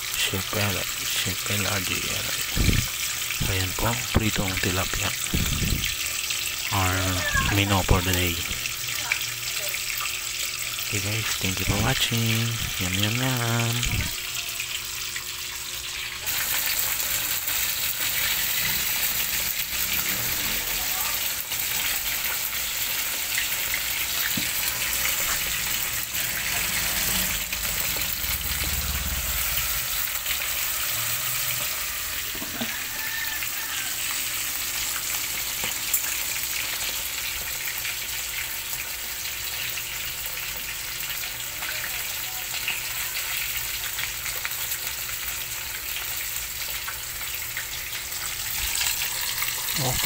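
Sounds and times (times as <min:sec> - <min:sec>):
fish sizzling in oil: 0:00.0 - 0:50.0.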